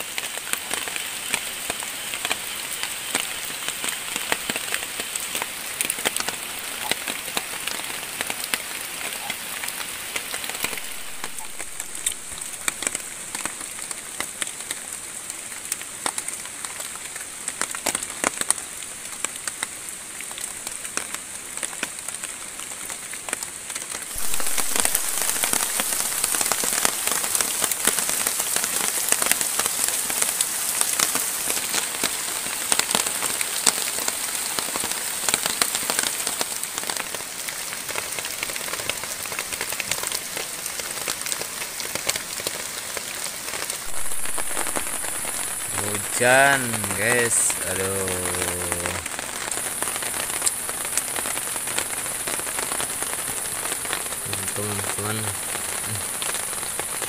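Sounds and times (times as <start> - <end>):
rain falling: 0.0 - 57.0
raindrops striking close by: 0.0 - 57.0.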